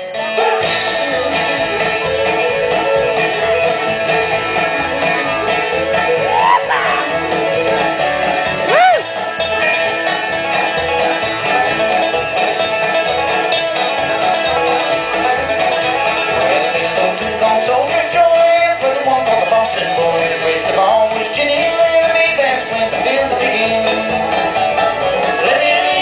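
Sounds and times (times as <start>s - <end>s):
banjo: 0.0s - 26.0s
guitar: 0.0s - 26.0s
sliding melody line: 0.0s - 26.0s.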